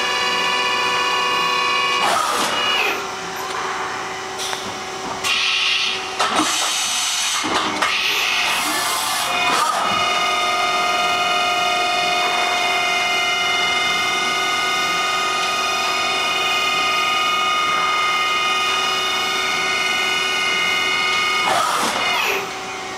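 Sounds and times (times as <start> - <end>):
machine pallet changer whine: 0.0 - 22.9.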